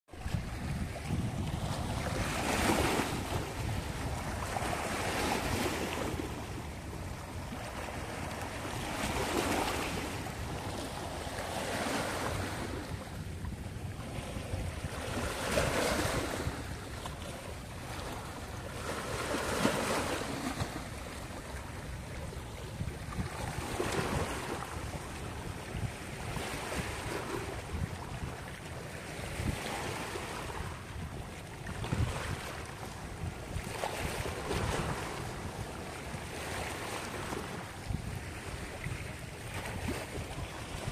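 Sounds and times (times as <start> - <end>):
wind rumble on microphone: 0.1 - 40.9.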